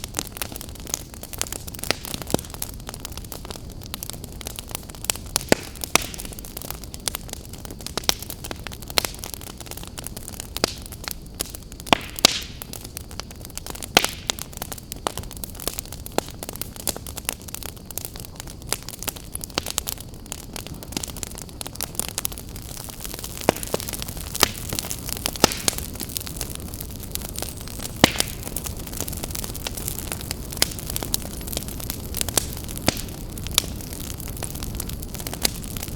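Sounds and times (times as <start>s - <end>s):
fire pops and snaps: 0.0s - 35.9s
rumble and hiss of flames: 0.0s - 35.9s
wood fire crackling: 0.0s - 35.9s.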